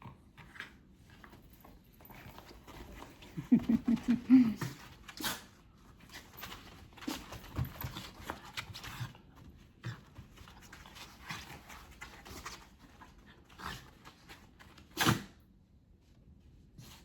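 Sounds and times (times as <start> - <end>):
dog play sounds: 0.0 - 15.4.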